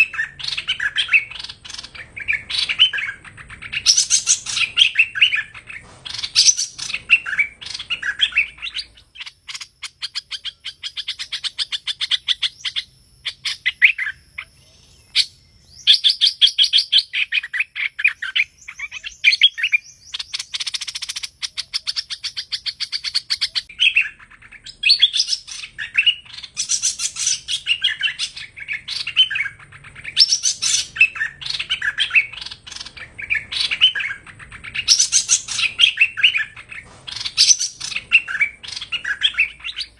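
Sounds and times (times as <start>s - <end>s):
songbird chattering and trilling: 0.0s - 39.9s.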